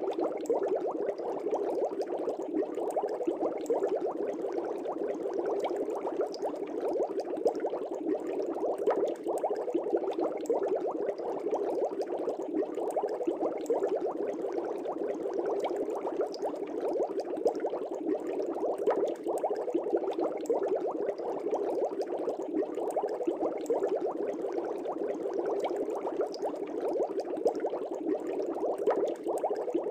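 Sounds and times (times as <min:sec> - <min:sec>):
air bubbling in a fish tank: 0:00.0 - 0:29.9.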